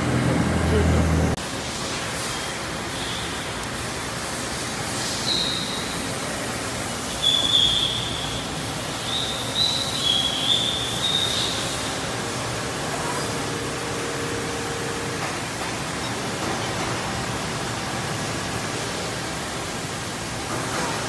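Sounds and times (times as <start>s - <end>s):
lathe machining hiss: 1.4s - 21.0s.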